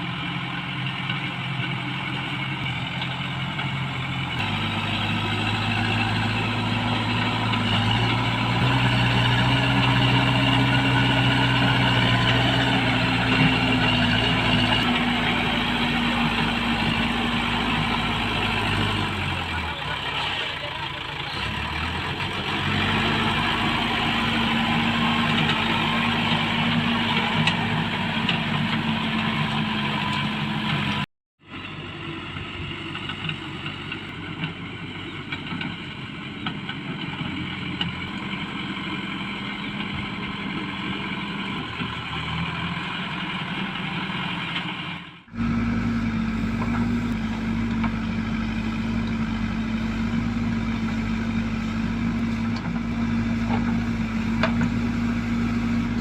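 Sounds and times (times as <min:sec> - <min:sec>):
diesel engine running: 0:00.0 - 0:56.0
rough machine noise: 0:00.0 - 0:56.0.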